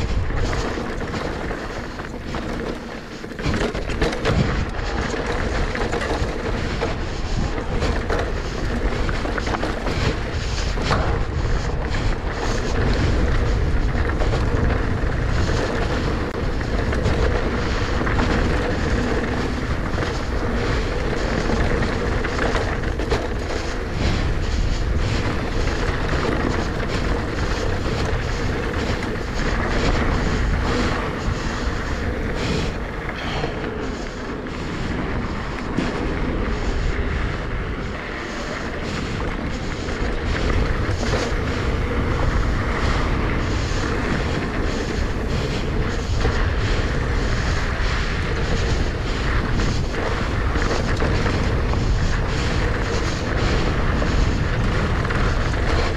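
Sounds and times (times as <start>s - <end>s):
bike rattling over rough ground: 0.0s - 55.9s
bike tyre rumble: 0.0s - 55.9s
wind noise on microphone: 0.0s - 55.9s.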